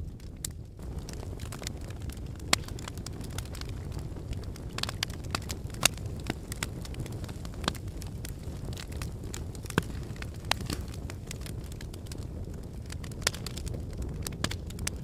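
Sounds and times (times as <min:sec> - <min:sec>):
logs crackling and popping: 0:00.0 - 0:15.0
low fire rumble: 0:00.0 - 0:15.0.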